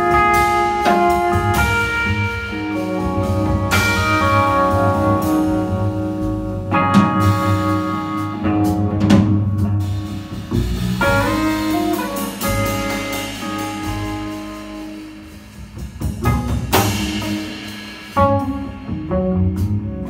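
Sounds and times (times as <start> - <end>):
drum kit with cymbals: 0.0 - 20.0
electric guitar chords: 0.0 - 20.0
upright bass: 0.0 - 20.0.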